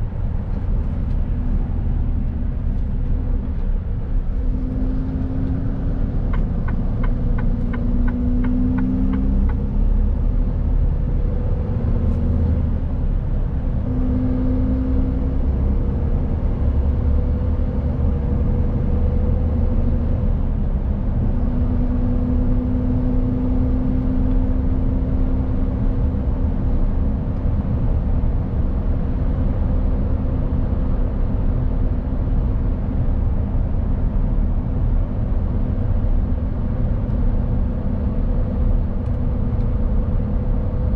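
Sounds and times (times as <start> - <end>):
low road rumble: 0.0 - 40.9
truck diesel engine drone: 0.0 - 40.9.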